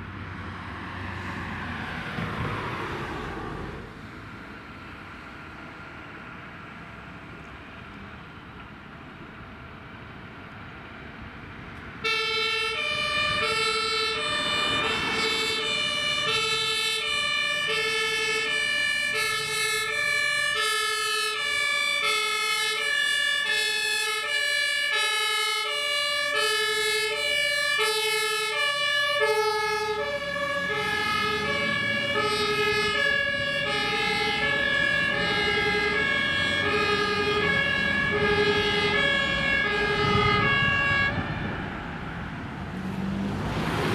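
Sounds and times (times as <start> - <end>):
truck engine and road noise: 0.0 - 43.9
two-tone fire engine siren: 0.6 - 4.0, 11.9 - 43.9.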